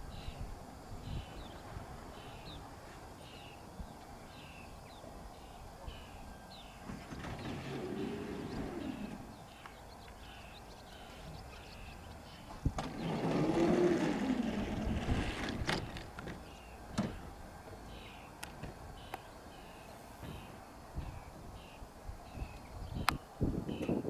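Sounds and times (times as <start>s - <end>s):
small birds chirping: 1.0s - 24.0s.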